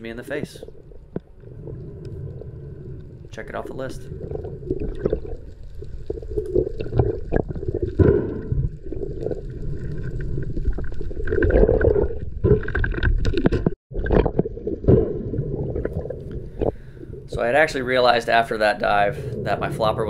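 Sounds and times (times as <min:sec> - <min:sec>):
water rushing and gurgling underwater: 0:00.0 - 0:20.0.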